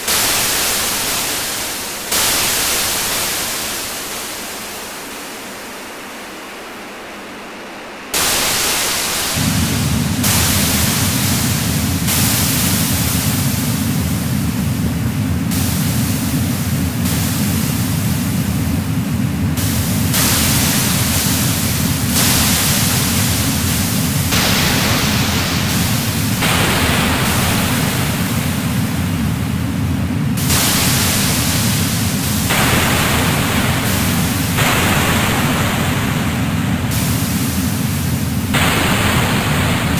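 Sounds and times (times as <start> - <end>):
layered filtered noise: 0.0 - 39.9
loud hiss changing colour: 0.0 - 39.9
low rumbling noise band: 3.6 - 39.9.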